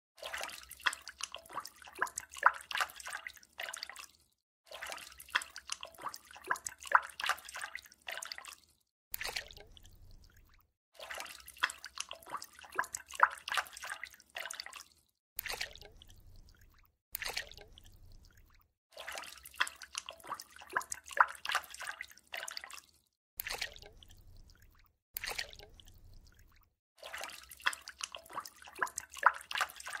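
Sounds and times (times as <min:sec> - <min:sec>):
water splashing and dripping: 0:00.2 - 0:30.0.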